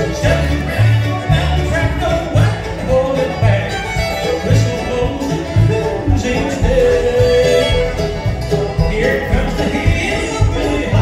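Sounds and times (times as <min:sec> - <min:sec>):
bluegrass band playing: 0:00.0 - 0:11.0.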